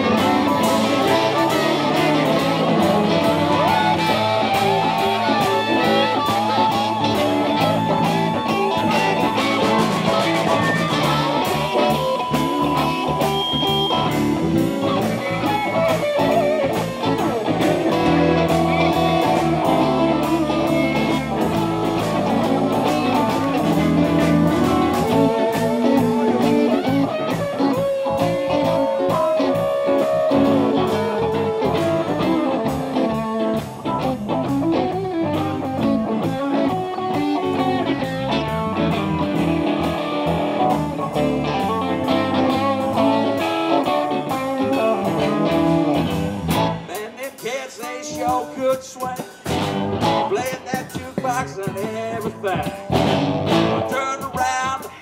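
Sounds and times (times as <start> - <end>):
live blues band playing: 0.0 - 55.0.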